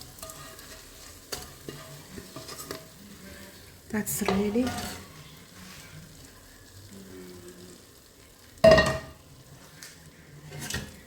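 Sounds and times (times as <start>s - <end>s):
food sizzling while stirred: 0.0s - 11.0s.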